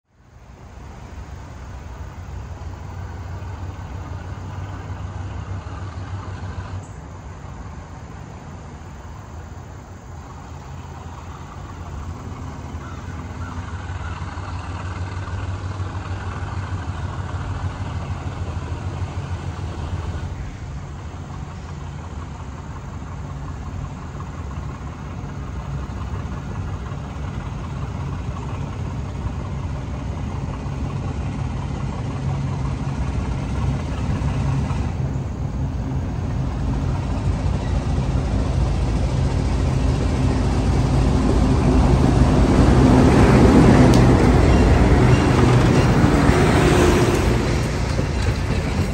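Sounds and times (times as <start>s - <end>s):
diesel locomotive engine humming: 0.1s - 48.9s.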